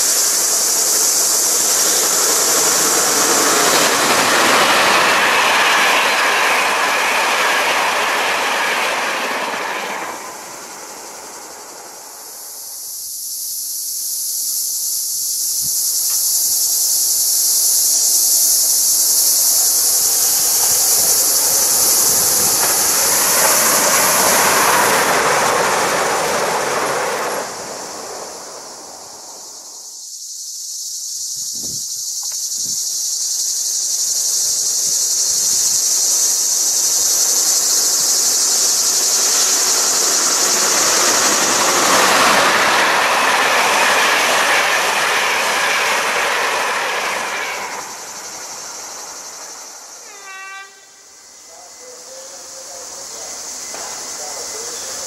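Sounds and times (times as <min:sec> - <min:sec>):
electric trains passing: 0:00.0 - 0:55.0
high insect buzz: 0:00.0 - 0:55.0.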